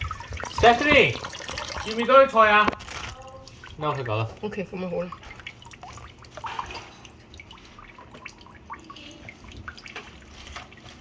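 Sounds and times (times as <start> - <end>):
small clicks and splashes: 0.0 - 11.0
water trickling at sink: 0.0 - 11.0.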